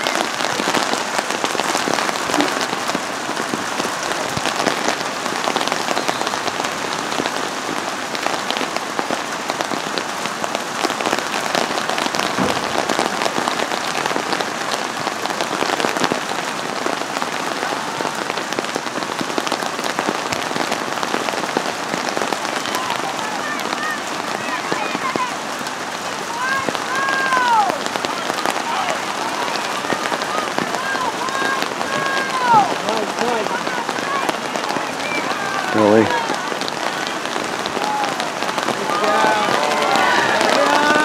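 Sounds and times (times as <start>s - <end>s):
raindrops ticking close by: 0.0s - 41.0s
steady rain falling: 0.0s - 41.0s.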